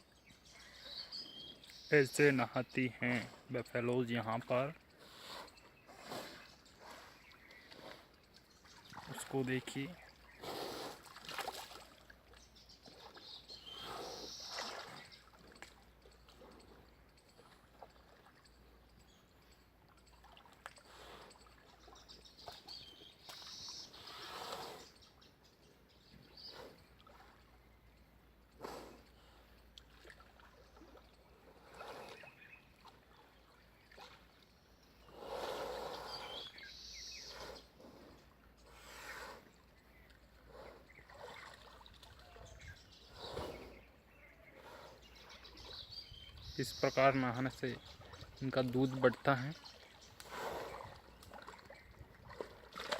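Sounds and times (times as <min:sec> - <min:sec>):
water splashing and sloshing: 0:00.0 - 0:24.2, 0:26.0 - 0:35.2, 0:39.4 - 0:43.9, 0:45.1 - 0:52.9.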